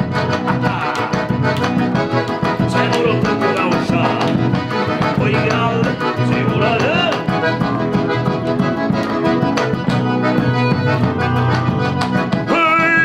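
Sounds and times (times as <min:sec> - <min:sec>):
accordion: 0:00.0 - 0:13.0
bass line: 0:00.0 - 0:13.0
drum beat: 0:00.0 - 0:13.0.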